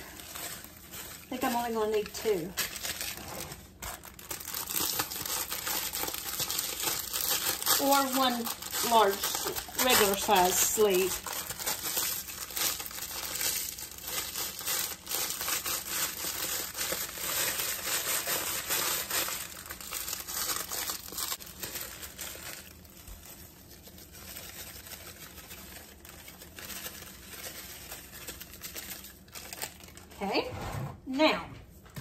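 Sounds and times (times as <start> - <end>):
crackers crushed by hand: 0.0 - 30.2.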